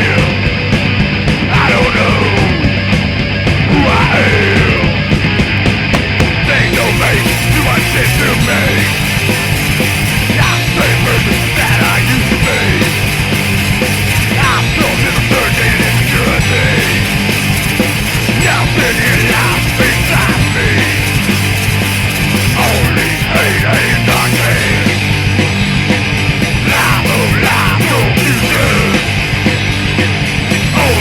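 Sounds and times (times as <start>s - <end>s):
punk rock band playing: 0.0s - 31.0s.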